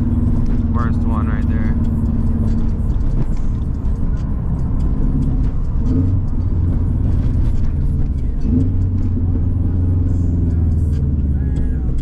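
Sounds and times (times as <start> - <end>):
car interior rattles and ticks: 0.0 - 12.0
engine and road rumble: 0.0 - 12.0.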